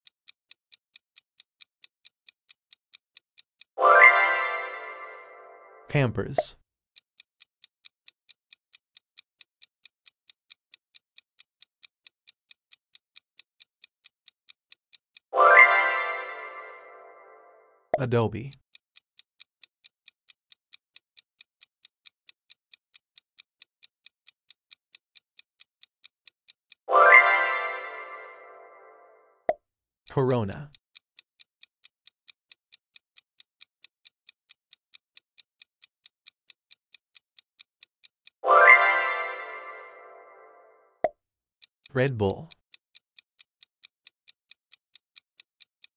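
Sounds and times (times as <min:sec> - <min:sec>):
timer ticking: 0:00.0 - 0:06.6, 0:07.2 - 0:45.9.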